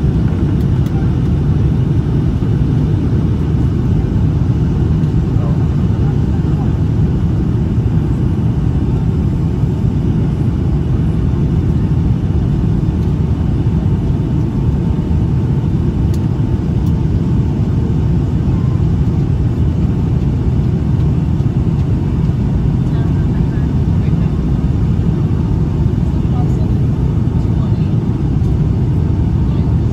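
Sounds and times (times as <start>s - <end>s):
airplane cabin rumble: 0.0s - 29.9s.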